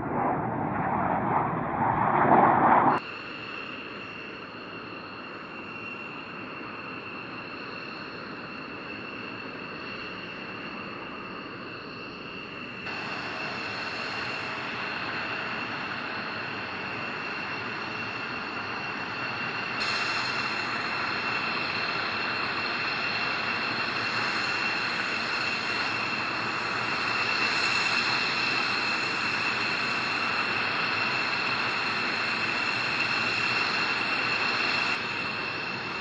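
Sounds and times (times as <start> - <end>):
high-pitched whine: 0.0 - 36.0
jet aircraft hiss: 0.0 - 36.0.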